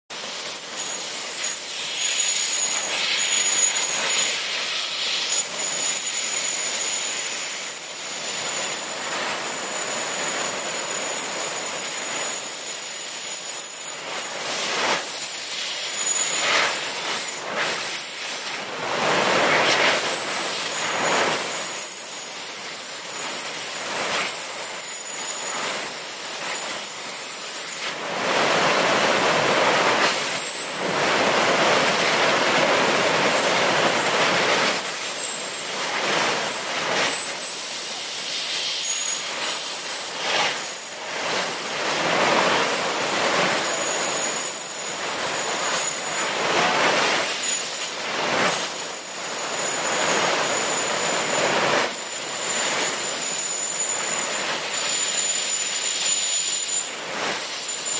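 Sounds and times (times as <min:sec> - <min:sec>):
water pouring over spillway: 0:00.1 - 0:57.9.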